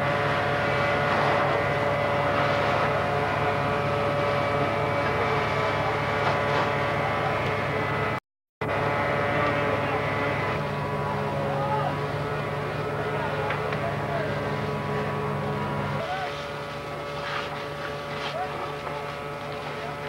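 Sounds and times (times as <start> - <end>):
fire engine droning: 0.0 - 20.0.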